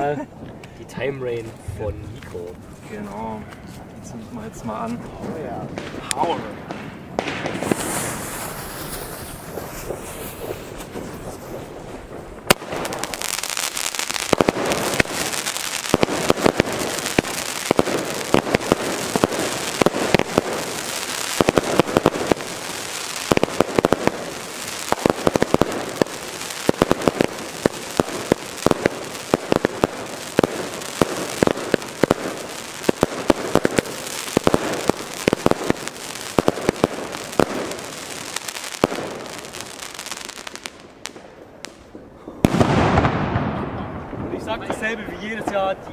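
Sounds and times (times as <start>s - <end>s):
fireworks launching and bursting: 0.0s - 45.9s.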